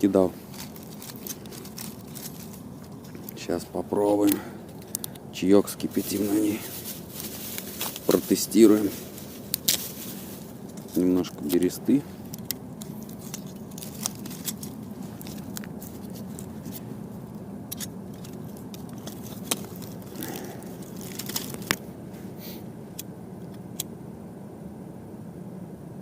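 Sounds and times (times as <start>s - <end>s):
crackling wood stove fire: 0.0s - 23.9s
steady low hum: 0.0s - 26.0s.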